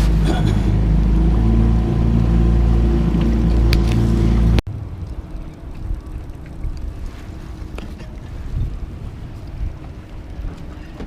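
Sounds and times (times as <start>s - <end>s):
boat motor running: 0.0s - 11.0s
wind and water rumble: 0.0s - 11.0s.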